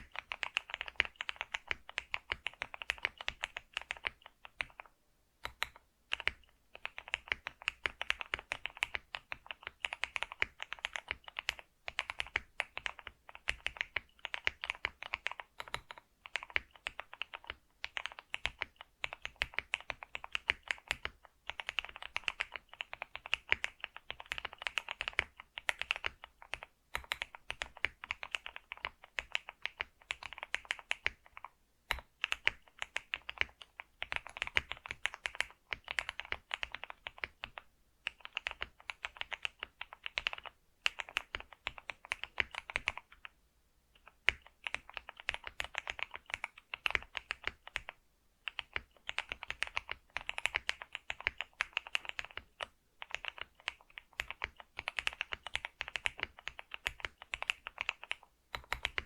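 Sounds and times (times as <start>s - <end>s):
typing on computer keyboard: 0.0s - 43.4s, 44.0s - 59.0s.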